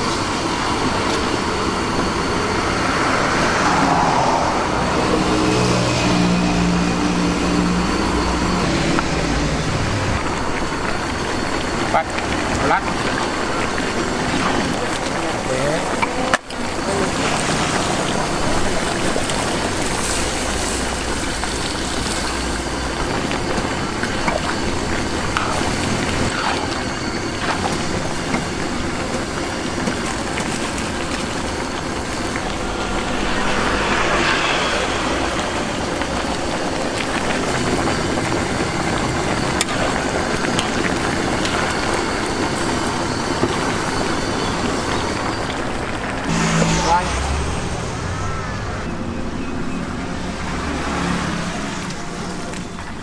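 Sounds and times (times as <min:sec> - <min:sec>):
gas burner rushing: 0:00.0 - 0:53.0.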